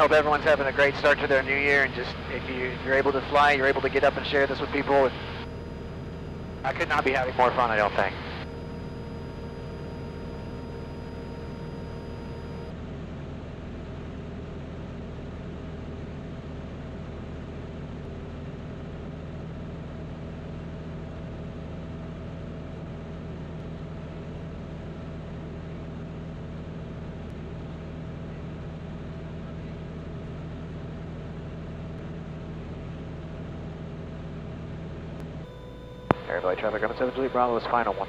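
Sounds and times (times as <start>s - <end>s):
airplane engine droning in cockpit: 0.0s - 38.0s.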